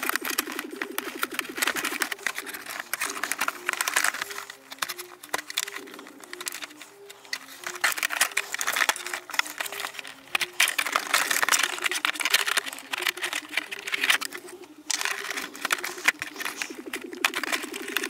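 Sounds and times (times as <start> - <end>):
background music melody: 0.0 - 18.0
knife rasping hard plastic: 0.0 - 18.0.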